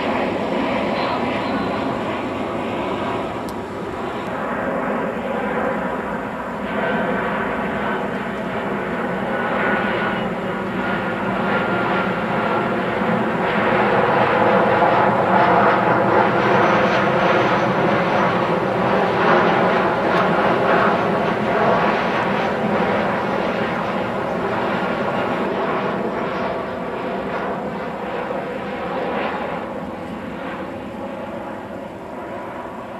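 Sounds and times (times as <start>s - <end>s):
jet airliner passing overhead: 0.0s - 32.9s.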